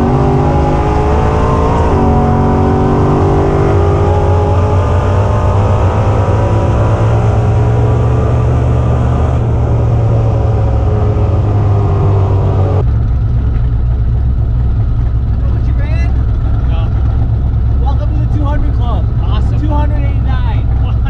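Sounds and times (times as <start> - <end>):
car engine deep rumble: 0.0 - 21.0.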